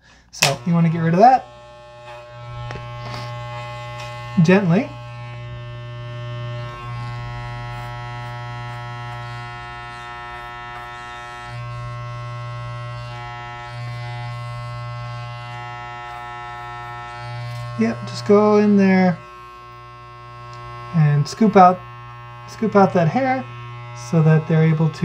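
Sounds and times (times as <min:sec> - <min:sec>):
electric clippers buzzing: 0:00.0 - 0:25.0.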